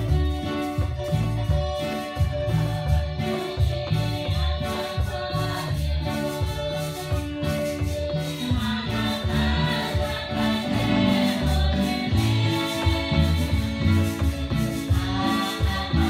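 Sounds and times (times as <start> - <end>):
amplified instrumental accompaniment: 0.0 - 16.0
congregation singing a hymn: 1.5 - 16.0.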